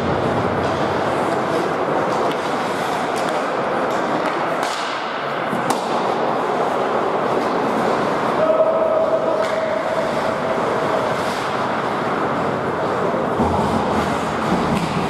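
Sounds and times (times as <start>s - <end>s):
hockey sticks and puck clacking: 0.0s - 15.0s
skating and arena noise: 0.0s - 15.0s.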